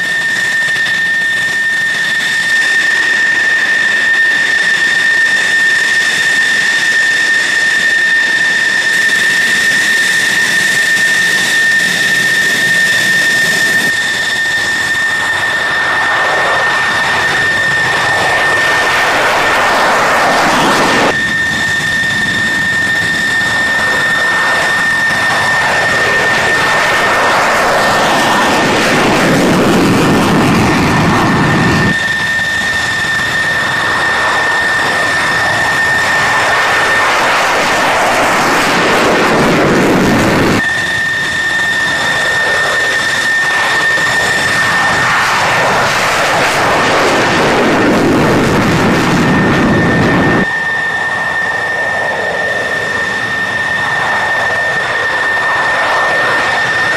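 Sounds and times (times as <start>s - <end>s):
afterburner takeoff roar: 0.0s - 56.9s
jet engine high-pitched whine: 0.0s - 56.9s.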